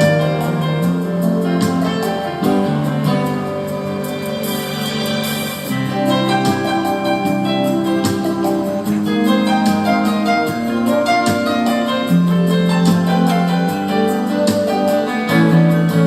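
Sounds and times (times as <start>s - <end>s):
soft instrumental song with plucked strings: 0.0s - 16.0s.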